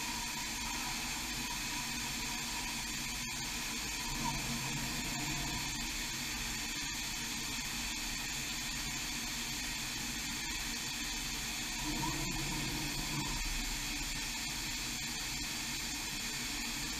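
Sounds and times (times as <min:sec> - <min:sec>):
machine drives and fans whirring: 0:00.0 - 0:16.9.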